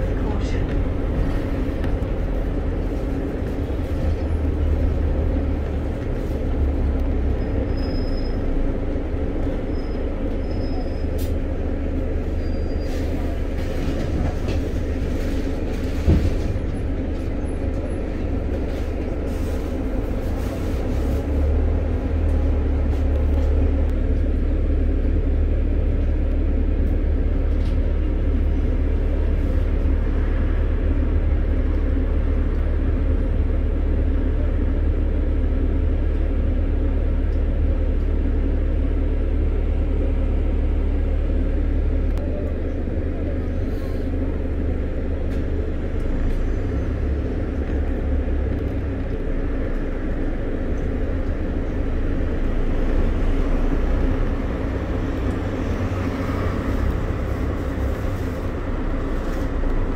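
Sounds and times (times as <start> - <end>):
bus engine drone: 0.0 - 59.9
train rumbling across bridge: 0.0 - 59.9.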